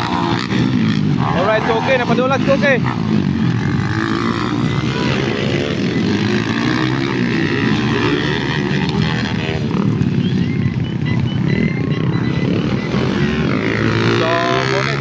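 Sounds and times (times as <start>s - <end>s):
motorcycle engines at high revs: 0.0s - 15.0s.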